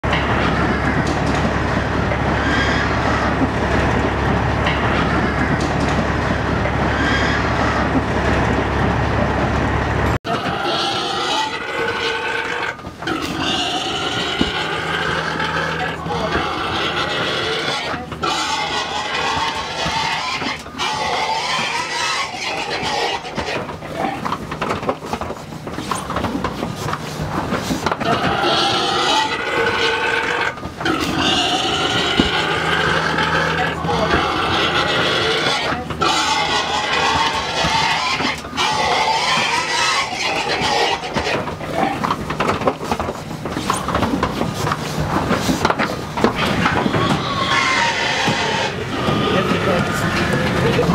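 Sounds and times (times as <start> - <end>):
pigs squealing in distress: 0.1 - 8.6, 10.3 - 50.9.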